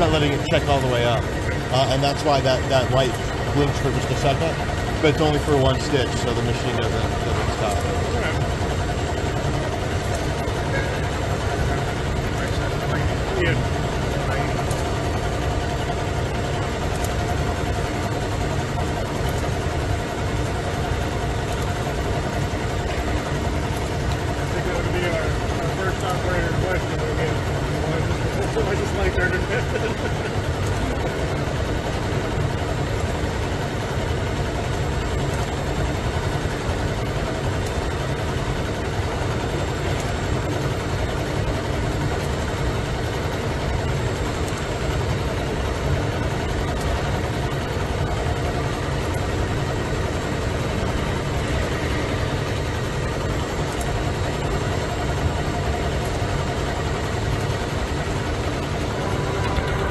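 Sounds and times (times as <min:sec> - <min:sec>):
low machine hum: 0:00.0 - 0:59.9
sewing machine running: 0:00.0 - 0:59.9.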